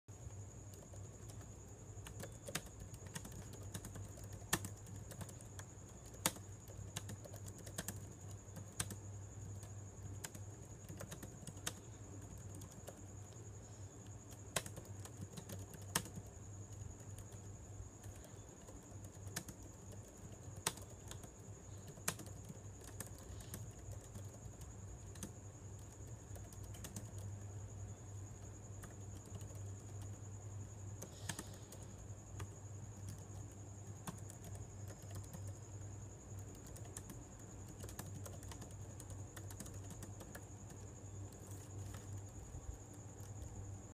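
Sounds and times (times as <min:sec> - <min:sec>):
keyboard typing clicks: 0:00.7 - 0:13.3, 0:14.2 - 0:27.4, 0:28.8 - 0:30.2, 0:30.9 - 0:35.7, 0:36.4 - 0:43.5.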